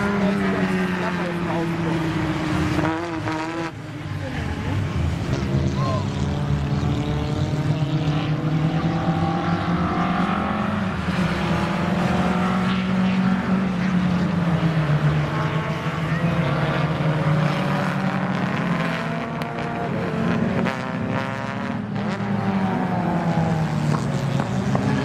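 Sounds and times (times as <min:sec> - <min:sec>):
racing car engines passing: 0:00.0 - 0:25.0.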